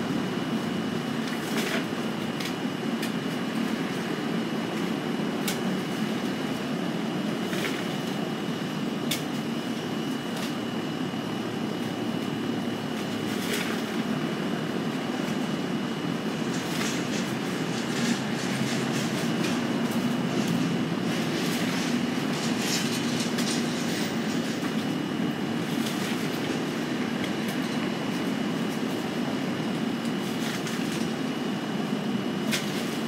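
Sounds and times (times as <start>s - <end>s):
low rumbling hum: 2.1s - 31.3s.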